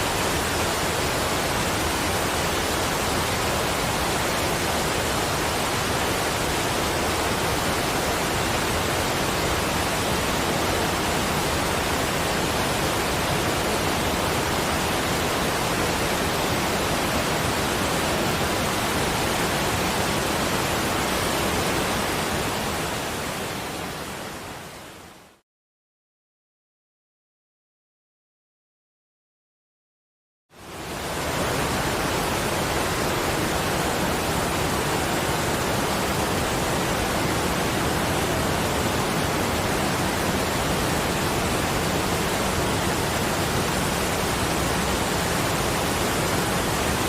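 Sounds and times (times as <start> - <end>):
rushing water: 0.0 - 25.4, 30.6 - 47.0.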